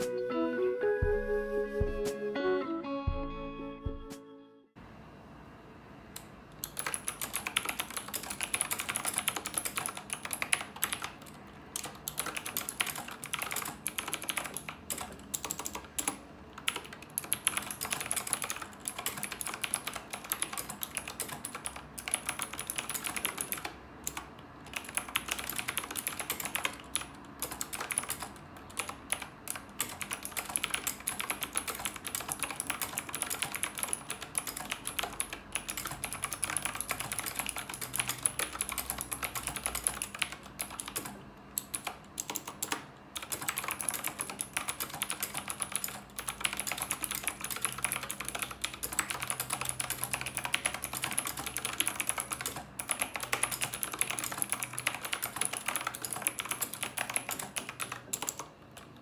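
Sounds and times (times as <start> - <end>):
mechanical keyboard typing: 6.2 - 59.0
key clicks and clacks: 6.6 - 58.9.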